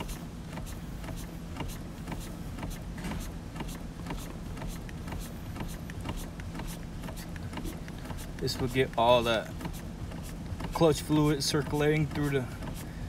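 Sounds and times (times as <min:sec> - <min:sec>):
clutch pedal clicks and knocks: 0:00.0 - 0:13.0.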